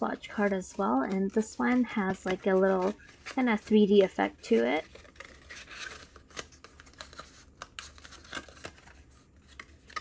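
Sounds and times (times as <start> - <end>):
paper card rustling: 0.1 - 10.0.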